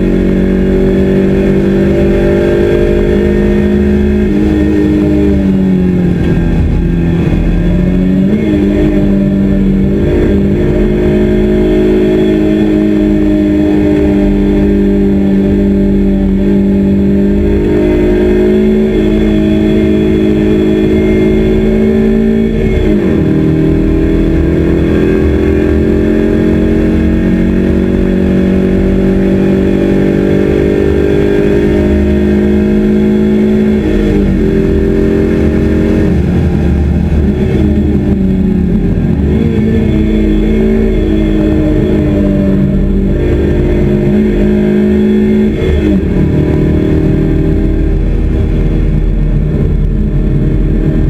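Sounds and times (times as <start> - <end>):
car engine at full throttle: 0.0 - 51.0
tyre and road rumble: 0.0 - 51.0.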